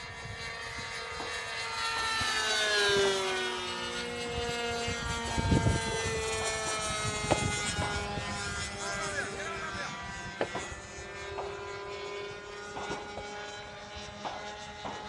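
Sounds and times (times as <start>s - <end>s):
model plane engines buzzing: 0.0s - 15.0s.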